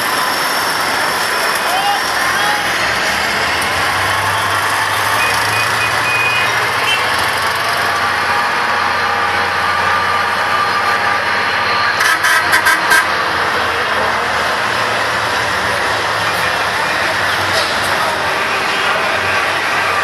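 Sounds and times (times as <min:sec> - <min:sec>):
heavy vehicle engine running: 0:00.0 - 0:20.0
loud outdoor noise: 0:00.0 - 0:20.0.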